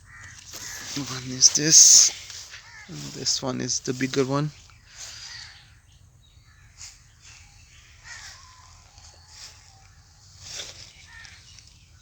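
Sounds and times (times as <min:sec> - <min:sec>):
bird calls and chirps: 0:00.0 - 0:12.0.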